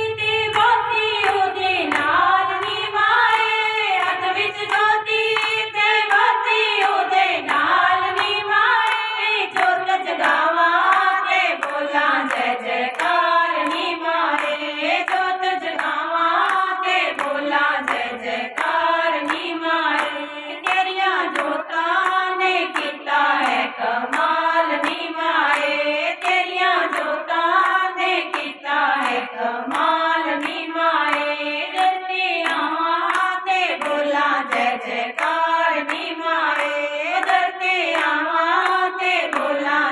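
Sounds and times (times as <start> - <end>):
hands clapping in rhythm: 0.0 - 39.9
women singing devotional song: 0.0 - 39.9.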